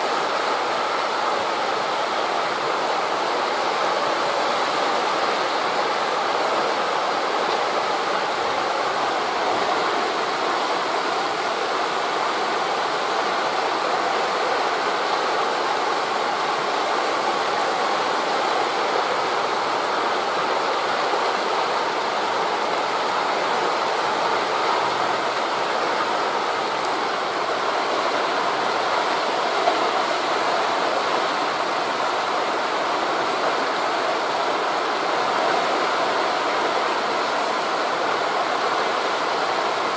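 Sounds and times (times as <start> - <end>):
distant waves on a beach: 0.0 - 39.9
wind through leaves: 0.0 - 39.9.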